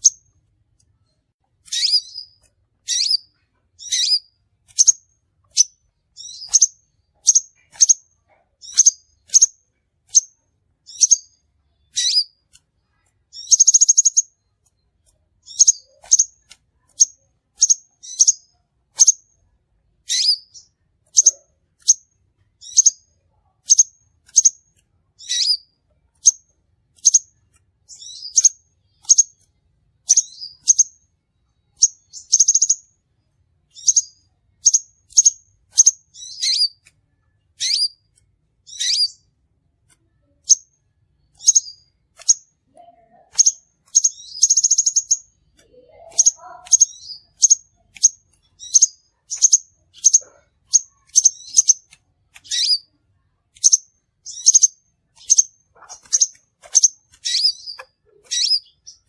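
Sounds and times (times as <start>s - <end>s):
bird chirping: 0.0s - 59.0s
buzzy bird trill: 1.6s - 14.6s, 15.4s - 19.3s, 20.0s - 31.0s, 31.7s - 32.9s, 33.7s - 36.9s, 37.5s - 39.3s, 40.2s - 59.0s.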